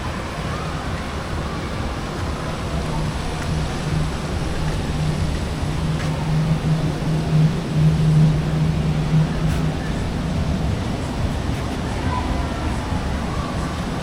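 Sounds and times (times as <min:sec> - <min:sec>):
low mechanical hum: 0:00.0 - 0:14.0
rumbling background: 0:00.0 - 0:14.0.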